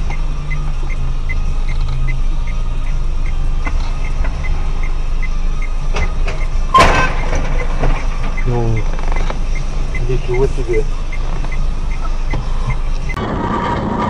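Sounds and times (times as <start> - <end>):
light regular ticking: 0.0 - 13.2
car engine and road noise: 0.0 - 14.0.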